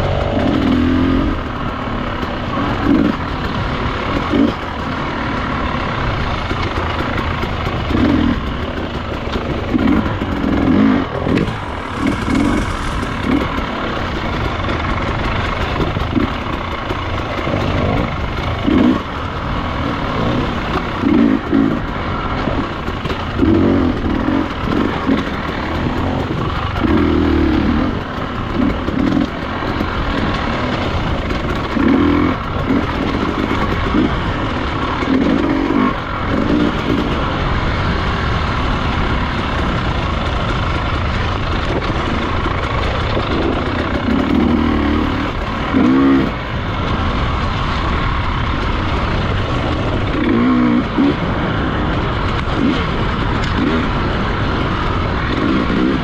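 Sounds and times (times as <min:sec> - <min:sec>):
motorcycle engine revving: 0:00.0 - 0:56.0
steady rushing noise: 0:00.0 - 0:56.0.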